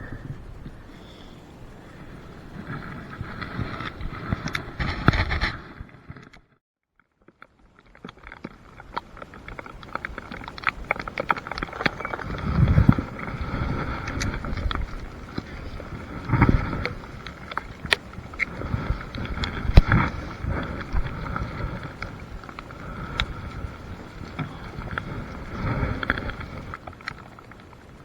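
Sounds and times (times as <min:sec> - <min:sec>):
steady outdoor hiss: 0:00.0 - 0:06.1, 0:07.4 - 0:28.0
wind buffeting microphone: 0:00.0 - 0:06.1, 0:09.2 - 0:28.0.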